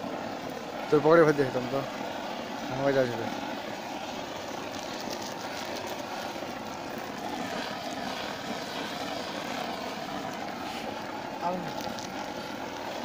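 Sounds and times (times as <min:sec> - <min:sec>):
blowlamp burning with rushing noise: 0:00.0 - 0:13.0.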